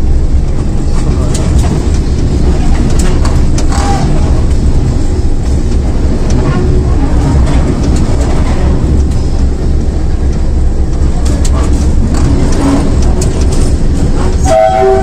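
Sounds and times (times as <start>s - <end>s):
locomotive engine rumbling: 0.0s - 15.0s.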